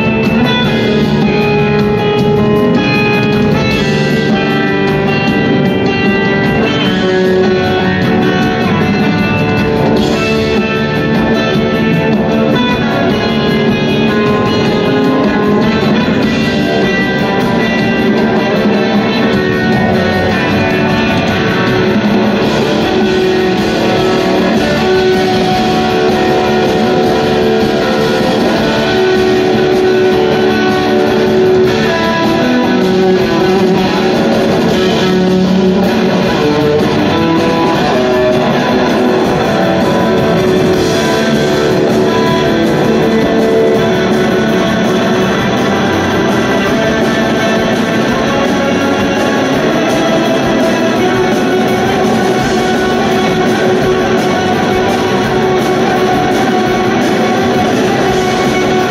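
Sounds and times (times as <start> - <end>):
band playing instrumental jam: 0.0 - 58.9
electric guitar: 0.0 - 58.9.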